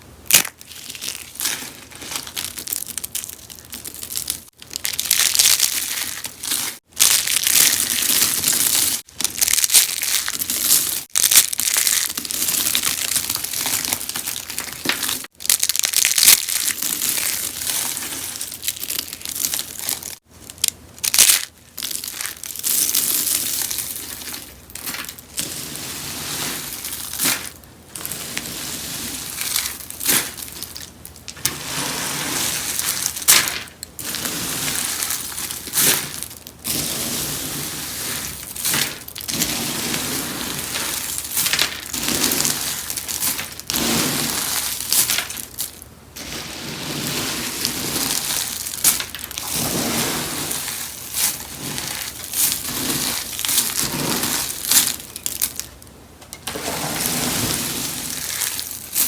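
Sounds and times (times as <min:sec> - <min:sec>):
soap being crushed and crunched: 0:00.3 - 0:25.8, 0:32.5 - 0:59.0.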